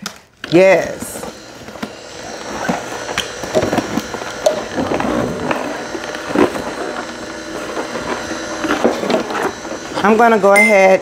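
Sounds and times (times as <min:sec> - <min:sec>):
fruit cracking in juicer: 0:00.0 - 0:10.1
juicer motor hum: 0:00.4 - 0:11.0.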